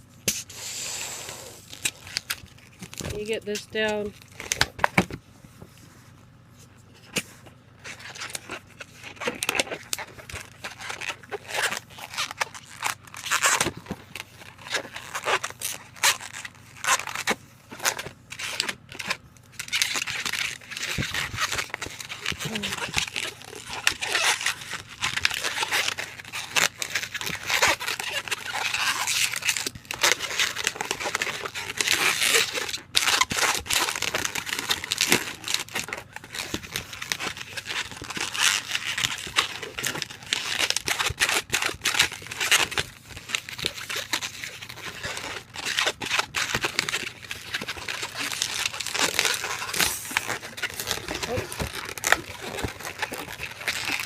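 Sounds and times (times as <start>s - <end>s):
balloon latex rubbing: 0.0s - 5.0s, 7.8s - 54.0s.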